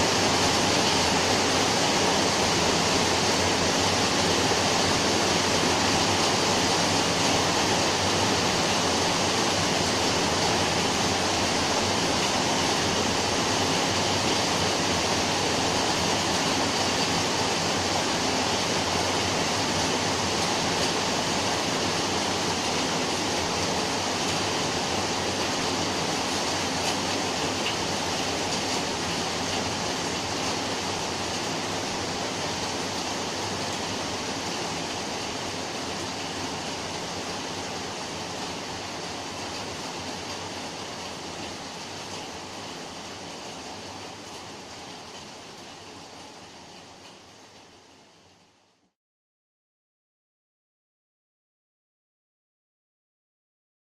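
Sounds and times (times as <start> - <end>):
rain falling steadily: 0.0 - 49.0.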